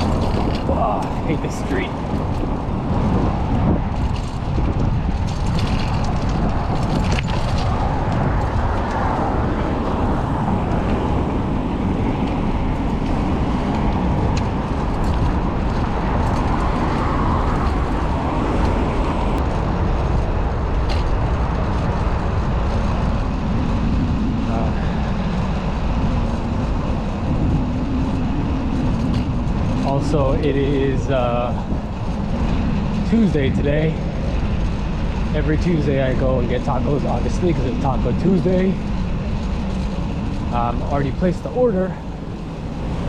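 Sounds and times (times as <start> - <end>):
traffic going by: 0.0 - 43.0
wind on microphone: 0.0 - 43.0.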